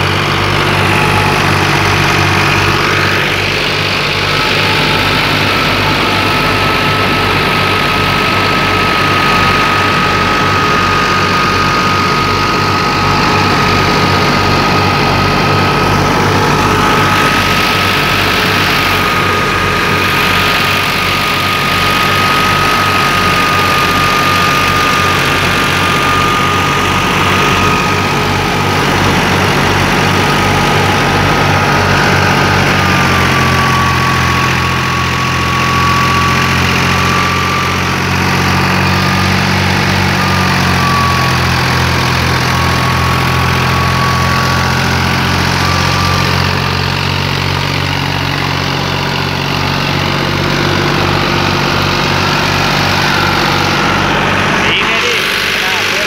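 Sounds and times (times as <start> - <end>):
thin steady whine: 0.0 - 56.0
tractor diesel engine running: 0.0 - 56.0.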